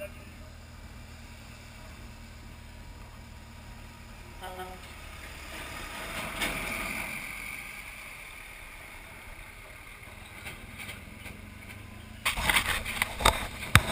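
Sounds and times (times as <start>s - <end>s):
motorcycle engine: 0.0s - 13.9s
tanker truck running alongside: 0.0s - 13.9s.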